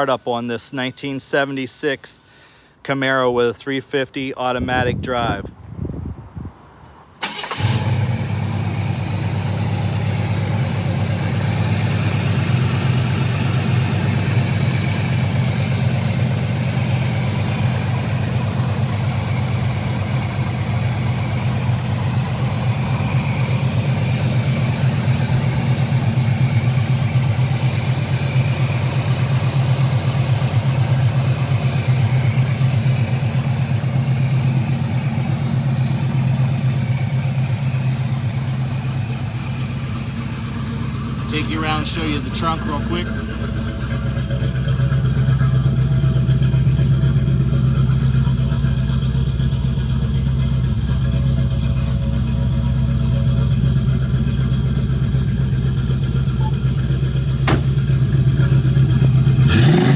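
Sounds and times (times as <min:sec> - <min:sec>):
car engine starting and idling: 0:06.6 - 0:59.9.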